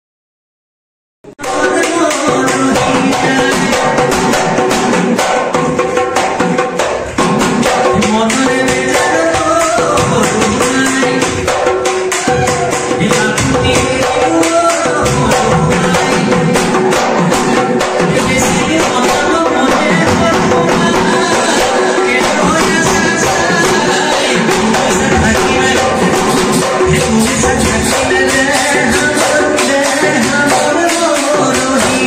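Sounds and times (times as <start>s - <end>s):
person singing: 1.3s - 5.6s, 7.0s - 32.0s
fast drumming: 1.3s - 32.0s.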